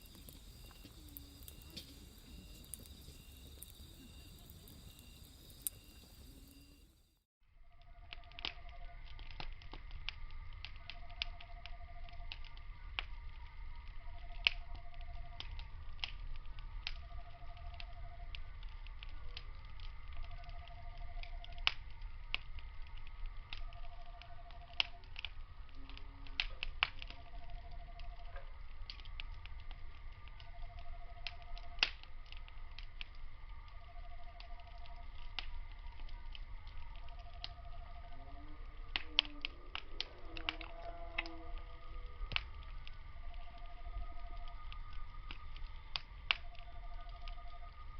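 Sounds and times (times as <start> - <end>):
insects trilling: 0.0 - 47.9
mid-pitched insect call: 0.0 - 47.9
wood fire crackling and popping: 0.0 - 47.9.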